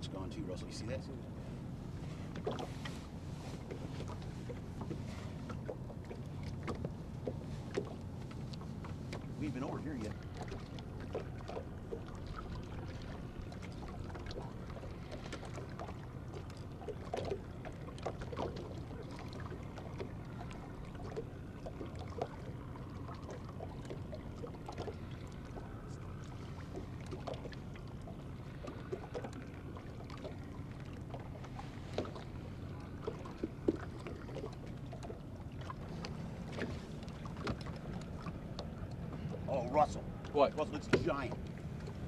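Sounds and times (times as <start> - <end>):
steady low hum: 0.0 - 42.0
waves lapping against boat hull: 0.0 - 42.0.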